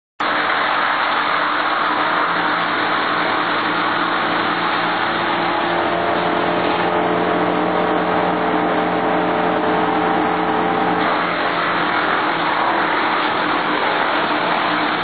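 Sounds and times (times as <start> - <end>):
wood chipper engine: 0.2 - 15.0.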